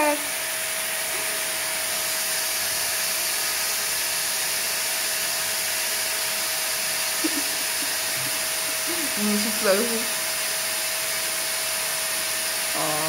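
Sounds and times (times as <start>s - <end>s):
appliance motor whooshing hum: 0.0s - 13.0s.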